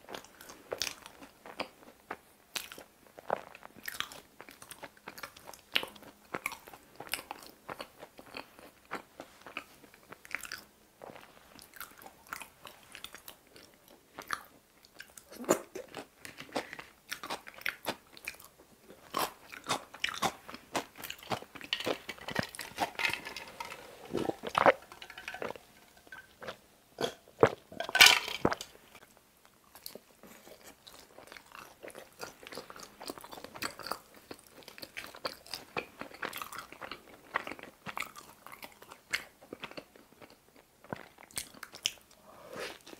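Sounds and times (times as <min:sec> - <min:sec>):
crunchy chewing: 0:00.0 - 0:27.8, 0:29.6 - 0:42.9.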